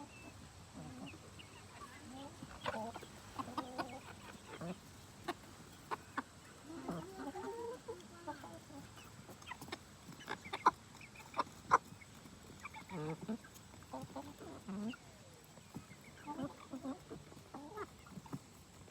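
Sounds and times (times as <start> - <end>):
chickens clucking: 0.0 - 18.9.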